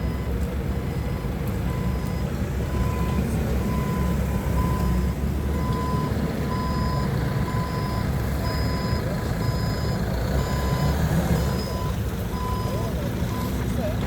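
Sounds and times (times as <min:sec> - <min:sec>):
backup alarm beeping: 0:00.0 - 0:13.6
forklift engine running: 0:00.0 - 0:14.0.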